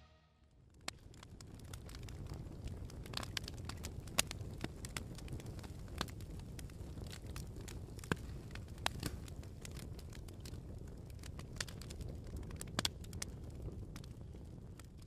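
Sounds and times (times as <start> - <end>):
fire crackling: 0.4 - 15.0.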